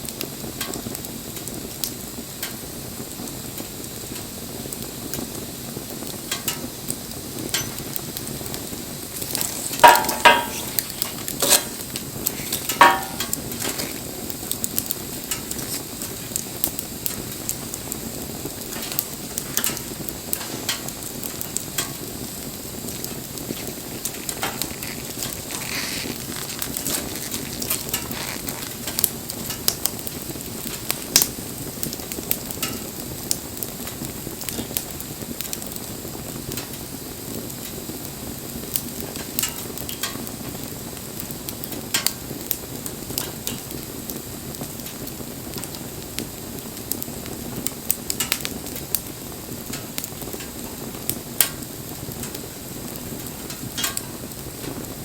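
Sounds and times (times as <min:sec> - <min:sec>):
fire crackles and snaps: 0:00.0 - 0:55.0
loud pops of fire: 0:00.0 - 0:55.0
wood fire hissing: 0:00.0 - 0:55.0.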